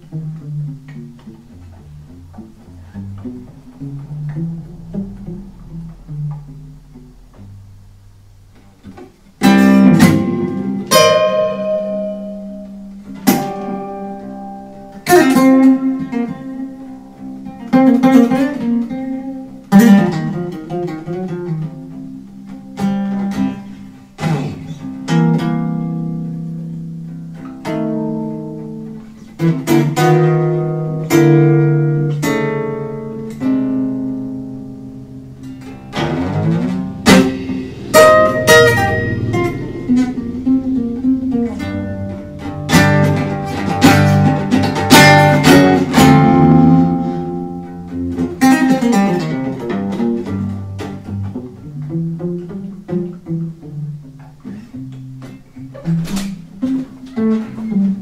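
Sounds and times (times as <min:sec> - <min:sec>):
acoustic guitar played slowly: 0:00.0 - 0:58.0.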